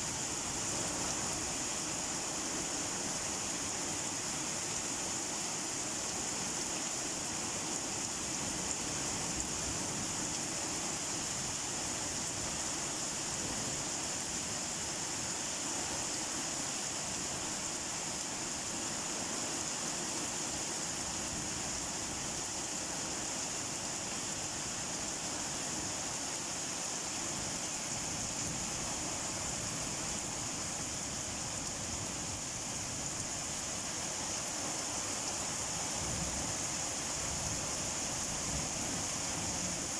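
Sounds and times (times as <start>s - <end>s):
rain hissing steadily: 0.0s - 39.9s.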